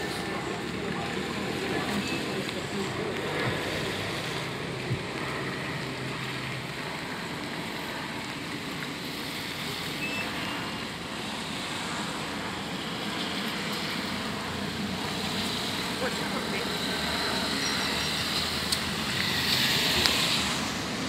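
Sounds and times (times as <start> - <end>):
jet engine roar overhead: 0.0 - 21.0.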